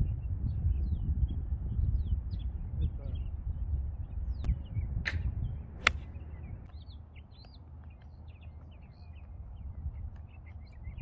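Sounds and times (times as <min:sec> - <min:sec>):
wind rumble on microphone: 0:00.0 - 0:06.9, 0:08.3 - 0:11.0
small birds chirping: 0:00.0 - 0:11.0.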